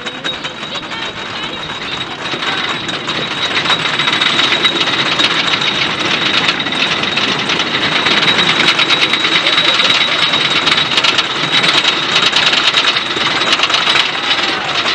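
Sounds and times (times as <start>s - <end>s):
roller coaster clattering on track: 0.0s - 14.9s
steady high whine: 0.0s - 14.9s.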